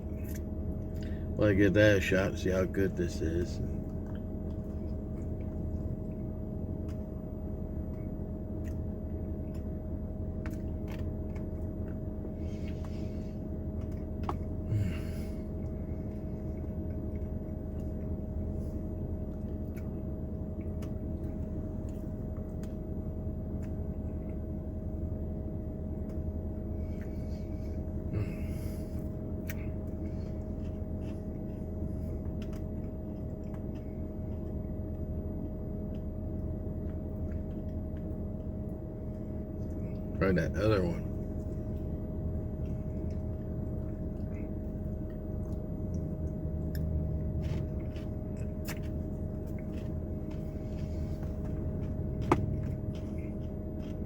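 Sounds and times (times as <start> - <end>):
low rumble with constant hum: 0.0 - 54.0.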